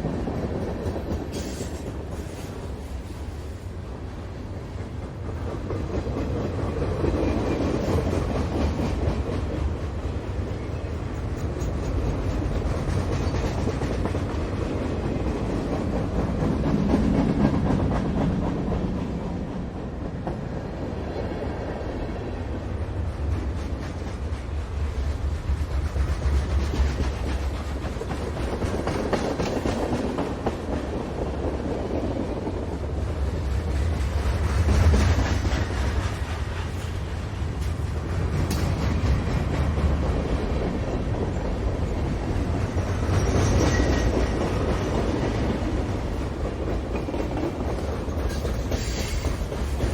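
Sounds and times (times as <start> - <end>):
freight train rumbling past: 0.0 - 49.9
train cars clicking and clanking: 0.0 - 49.9.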